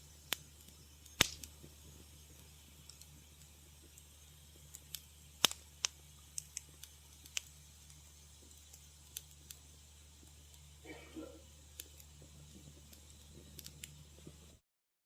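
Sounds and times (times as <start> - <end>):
faint low hum: 0.0 - 14.6
wood fire crackling: 0.0 - 14.6.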